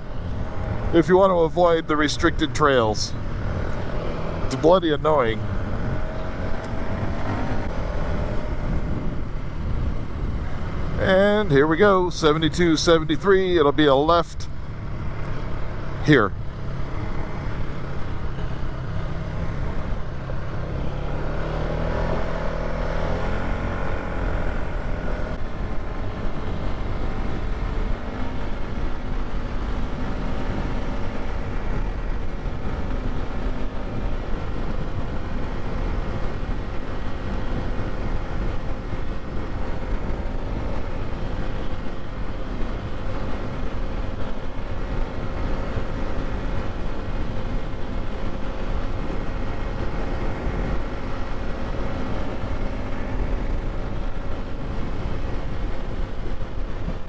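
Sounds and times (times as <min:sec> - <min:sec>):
quad engine rumbling: 0:00.0 - 0:57.0.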